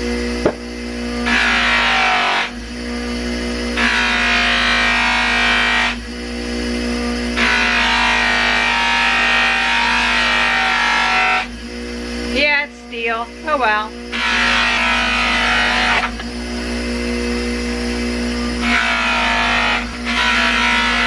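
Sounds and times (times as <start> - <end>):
abrasive wheel running: 0.0 - 21.0
metal grinding on wheel: 0.0 - 21.0.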